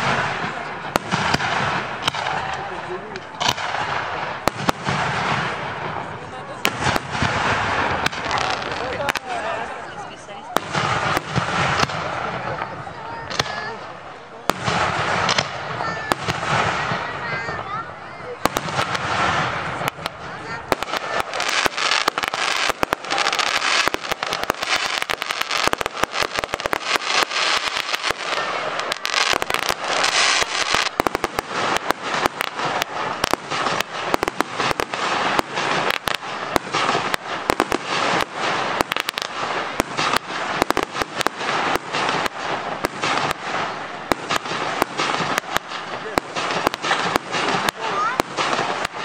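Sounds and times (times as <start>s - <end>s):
fireworks bangs and crackles: 0.0s - 49.0s
fireworks hiss: 0.0s - 49.0s.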